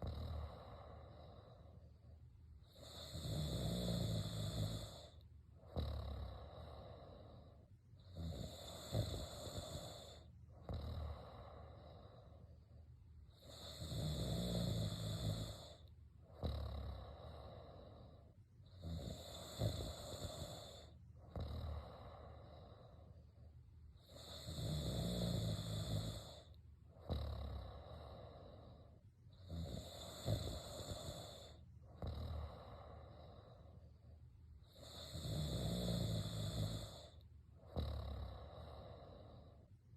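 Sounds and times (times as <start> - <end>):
person snoring: 0.0 - 2.0, 2.6 - 12.5, 13.3 - 23.2, 24.0 - 33.8, 34.6 - 39.7
quiet breathing: 0.0 - 39.9.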